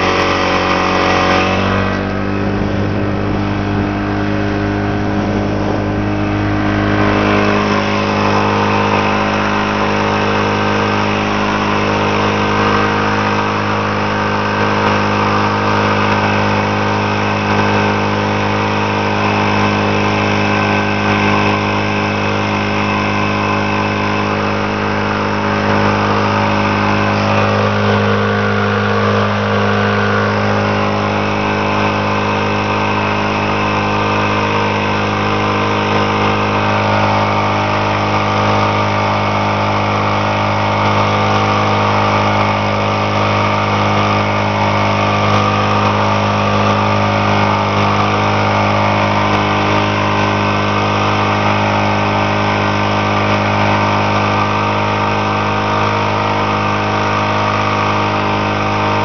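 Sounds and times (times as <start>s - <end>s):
churning wake rushing: 0.0s - 59.0s
outboard motor running: 0.0s - 59.0s.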